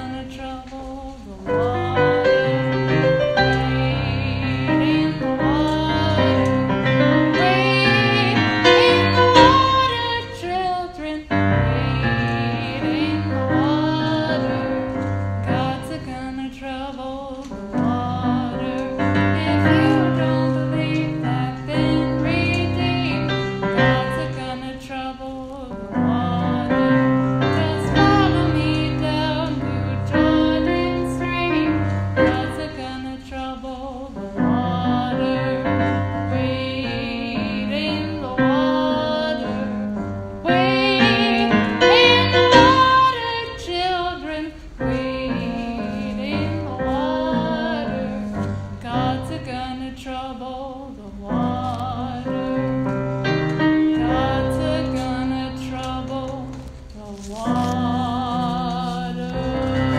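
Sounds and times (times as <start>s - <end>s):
piano accompaniment: 0.0s - 59.9s
woman singing: 0.0s - 59.9s.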